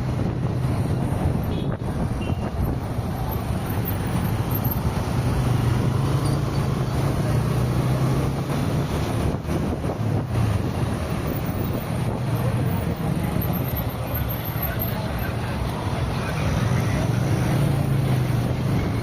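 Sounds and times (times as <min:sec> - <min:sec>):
car road noise: 0:00.0 - 0:19.0
surrounding traffic: 0:00.0 - 0:19.0.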